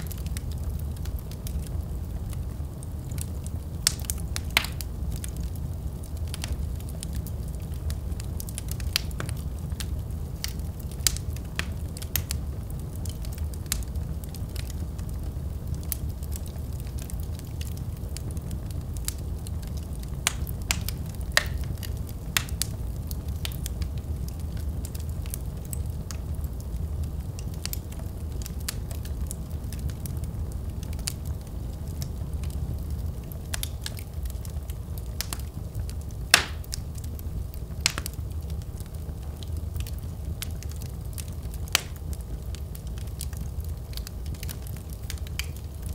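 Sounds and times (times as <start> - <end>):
fire crackling and popping: 0.0 - 45.9
fire rumbling: 0.0 - 45.9.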